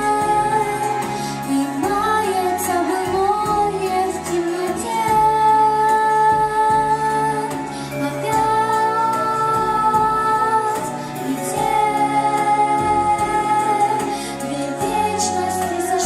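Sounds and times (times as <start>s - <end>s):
backing track: 0.0s - 16.0s
girl singing pop song: 0.0s - 16.0s.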